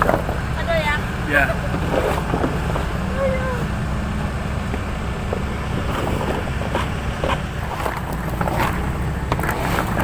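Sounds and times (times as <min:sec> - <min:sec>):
machinery rumbling: 0:00.0 - 0:10.0.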